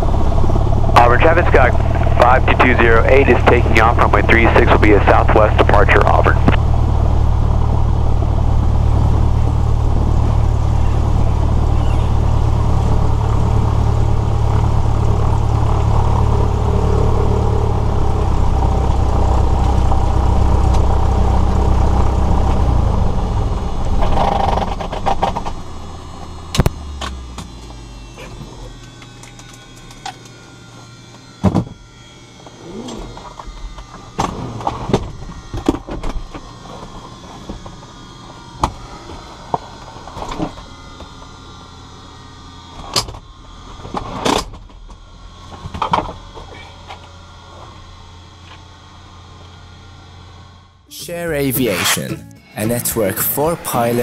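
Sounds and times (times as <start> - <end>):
aircraft engine idling: 0.0 - 43.9
engine running down: 0.0 - 54.0.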